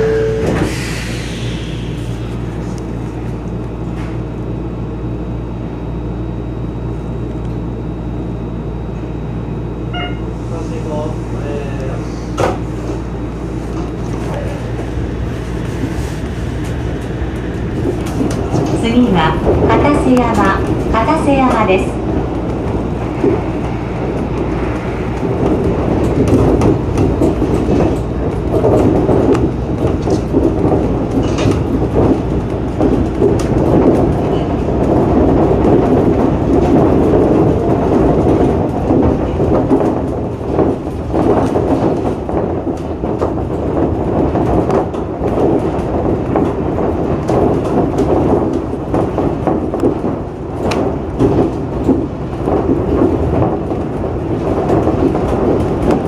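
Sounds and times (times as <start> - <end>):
monorail train running: 0.0 - 56.0.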